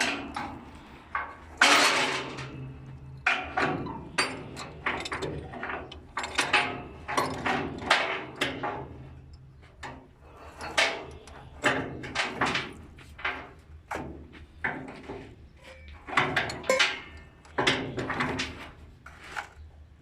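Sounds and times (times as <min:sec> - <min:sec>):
irregular knocks and clanks: 0:00.0 - 0:18.8.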